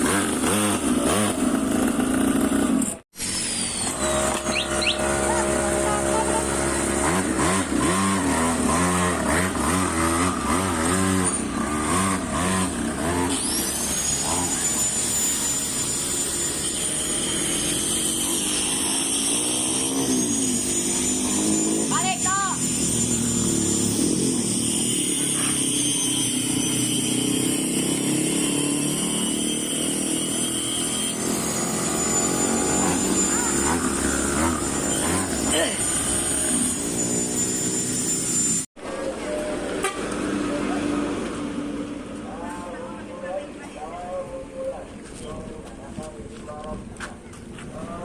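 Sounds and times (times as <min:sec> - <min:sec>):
two-stroke engine revving: 0:00.0 - 0:43.2.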